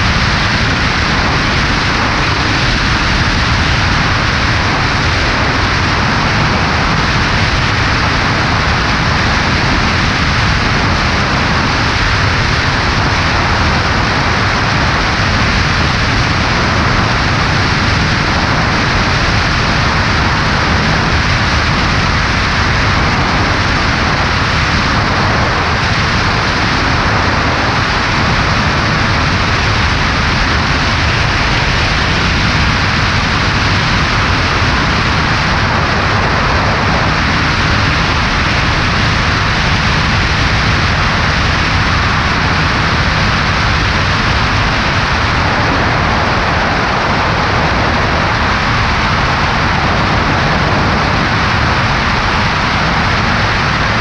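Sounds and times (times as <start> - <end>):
plane engine drone: 0.0 - 54.0
rush of airflow: 0.0 - 54.0.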